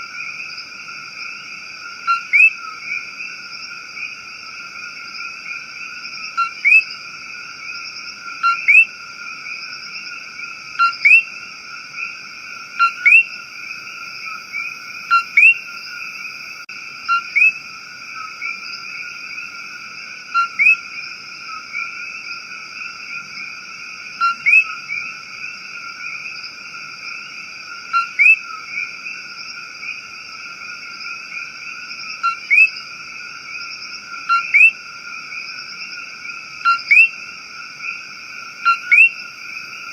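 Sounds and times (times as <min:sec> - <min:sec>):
sharp frog call: 0:00.0 - 0:23.5, 0:24.1 - 0:39.9
frog chorus drone: 0:00.0 - 0:39.9.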